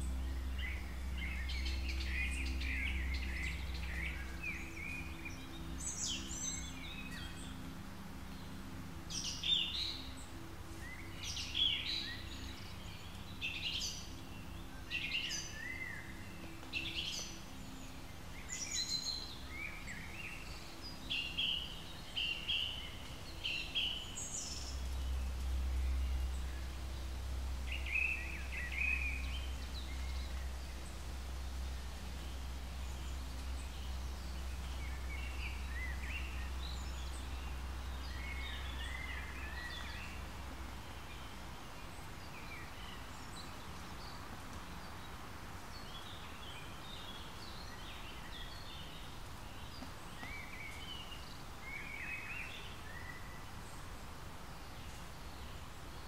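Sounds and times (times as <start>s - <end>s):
low steady hum: 0.0s - 56.0s
small birds chirping: 0.0s - 56.0s.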